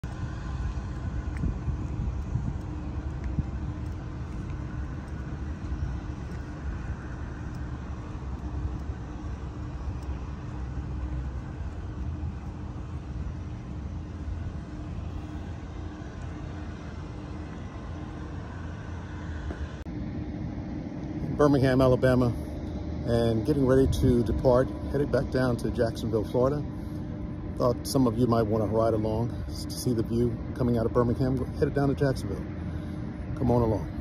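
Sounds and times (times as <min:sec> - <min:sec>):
constant hum: 0:00.0 - 0:34.0
low mechanical rumble: 0:00.0 - 0:34.0.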